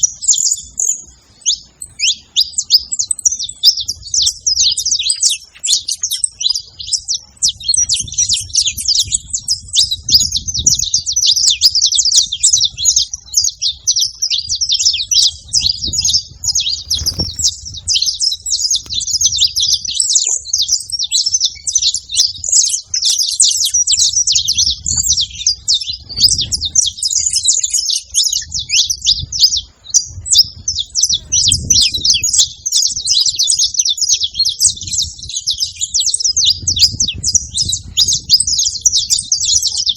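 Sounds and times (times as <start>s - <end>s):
finch song chirps and trills: 0.0s - 39.9s.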